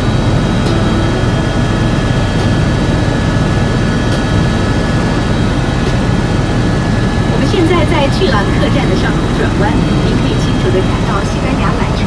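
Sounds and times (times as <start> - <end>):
helicopter rotor and turbine drone: 0.0 - 12.0
thin high whine: 0.0 - 12.0.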